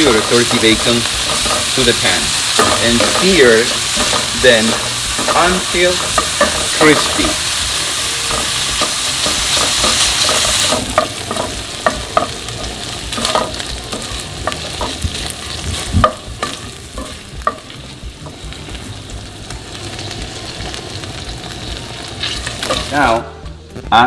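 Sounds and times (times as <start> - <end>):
food sizzling in a frying pan: 0.0 - 23.2
utensil scraping a pan: 0.0 - 23.2.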